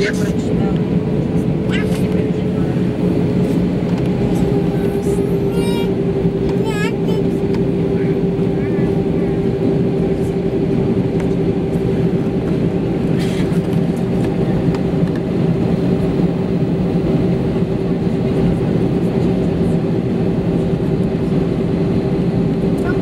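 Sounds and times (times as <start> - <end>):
jet engines humming in cabin: 0.0 - 23.0.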